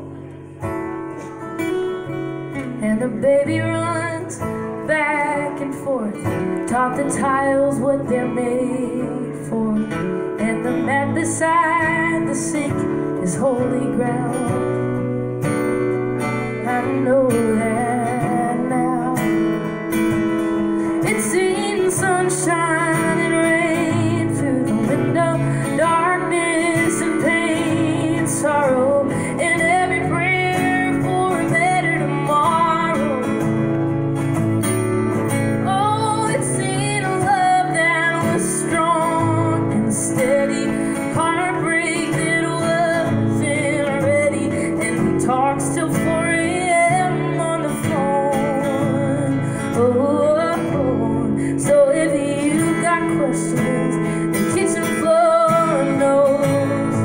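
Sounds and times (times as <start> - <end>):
strummed acoustic guitar: 0.0 - 57.0
woman singing with vibrato: 2.6 - 15.1, 16.2 - 19.9, 20.8 - 33.8, 35.4 - 57.0.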